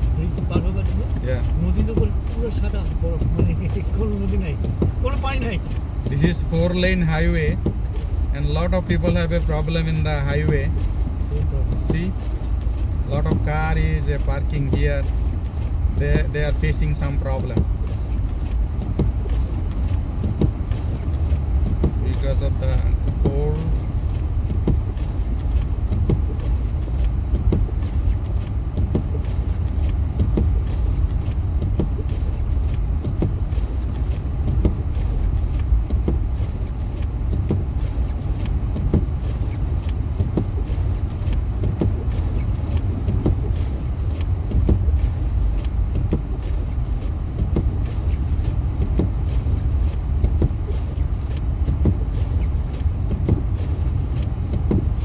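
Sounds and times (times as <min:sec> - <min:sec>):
light thumps and knocks: 0:00.0 - 0:55.0
road and engine rumble in vehicle: 0:00.0 - 0:55.0.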